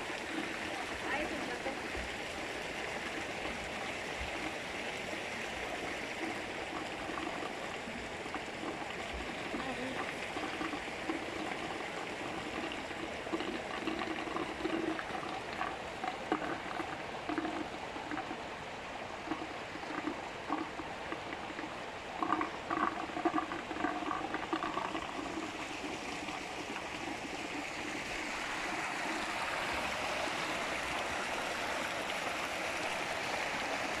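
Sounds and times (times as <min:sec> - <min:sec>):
water pouring into ponds: 0:00.0 - 0:34.0.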